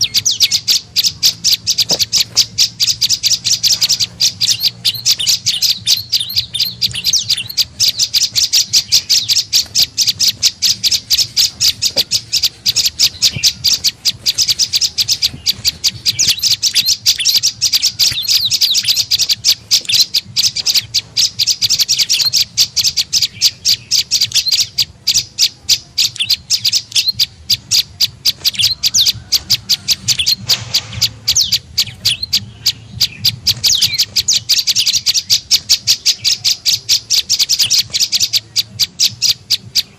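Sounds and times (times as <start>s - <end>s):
bird rapid high chirps: 0.0s - 39.9s.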